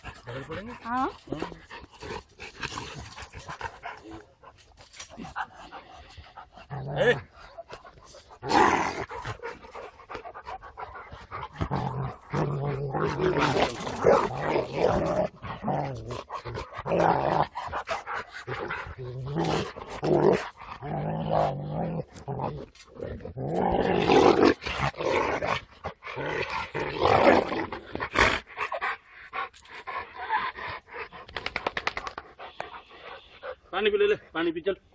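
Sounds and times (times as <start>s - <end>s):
dogs growling: 0.0s - 34.3s.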